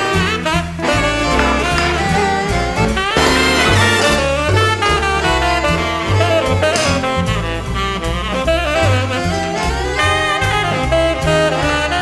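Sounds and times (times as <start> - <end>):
jazz music with saxophone: 0.0 - 12.0.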